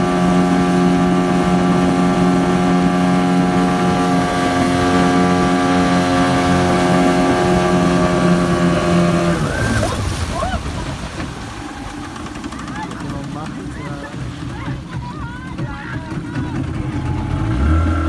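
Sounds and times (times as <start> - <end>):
motorboat engine droning: 0.0 - 18.0.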